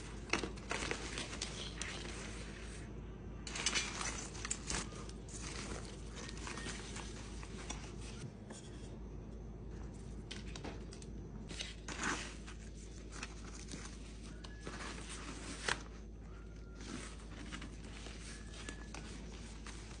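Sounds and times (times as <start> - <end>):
fabric rustling and crinkling: 0.0 - 2.9, 3.5 - 8.3, 11.5 - 20.0.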